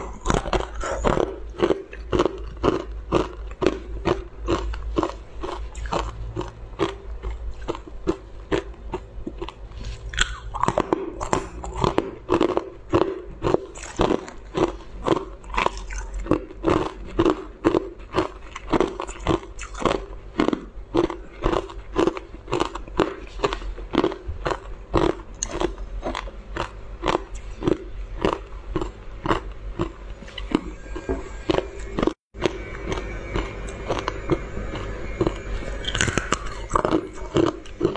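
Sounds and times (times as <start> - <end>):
ice crunching between teeth: 0.0 - 37.9.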